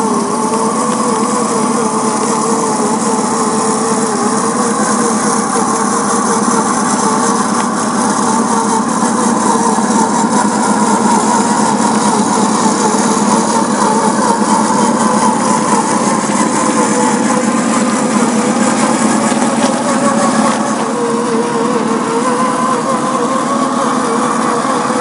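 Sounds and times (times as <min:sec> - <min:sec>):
electric motor and gears whining: 0:00.0 - 0:25.0.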